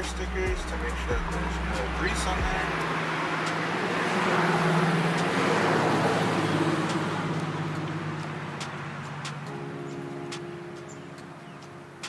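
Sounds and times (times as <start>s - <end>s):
passing vehicle: 0.0s - 11.5s.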